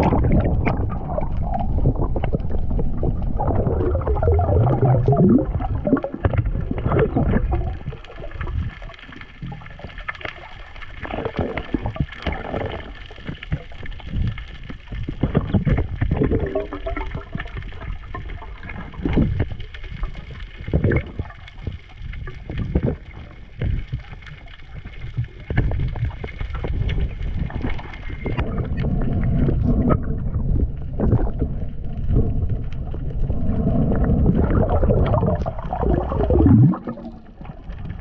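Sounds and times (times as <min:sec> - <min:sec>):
water sloshing and gurgling: 0:00.0 - 0:38.0.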